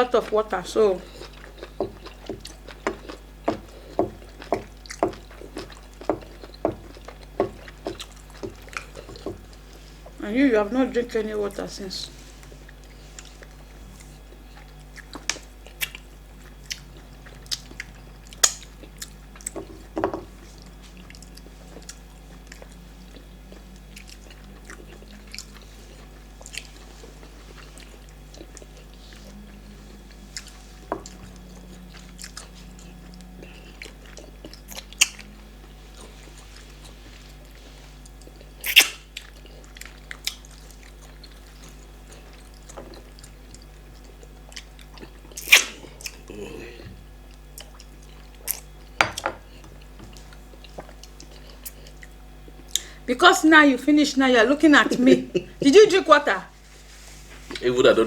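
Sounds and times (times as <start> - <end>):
low steady hum: 0.0 - 58.0
chewing and mouth smacks: 1.0 - 10.2, 12.4 - 46.4, 47.3 - 52.9.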